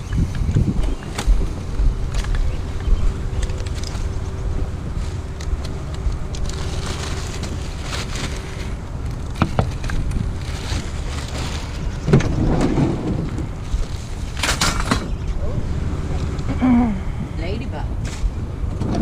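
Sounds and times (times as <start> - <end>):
vehicle engine rumbling: 0.0 - 19.0
wind on microphone: 0.0 - 19.0.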